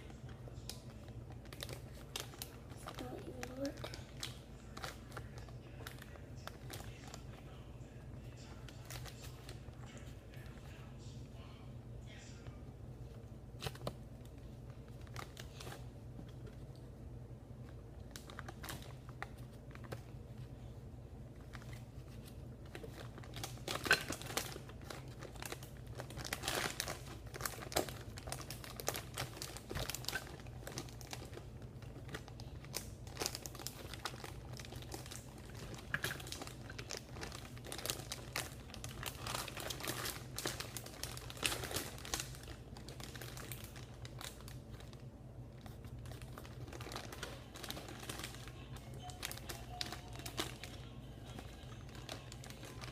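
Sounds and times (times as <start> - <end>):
plastic packaging crinkling: 0.0 - 11.0, 13.0 - 52.9
low steady hum: 0.0 - 52.9.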